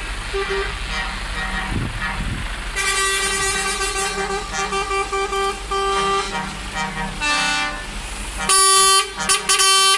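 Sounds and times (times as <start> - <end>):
diesel truck engines idling: 0.0 - 9.9
truck horn honking: 0.3 - 9.9.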